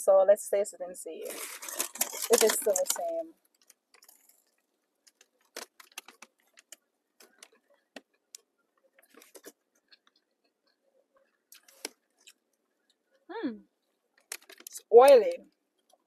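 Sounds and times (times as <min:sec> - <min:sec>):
crackling chewing of pastry: 0:01.3 - 0:14.8.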